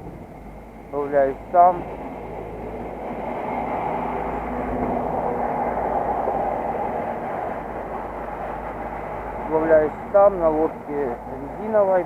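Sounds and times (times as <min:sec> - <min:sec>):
steady rushing noise: 0:00.0 - 0:12.0
vehicle engine hum: 0:00.0 - 0:12.0.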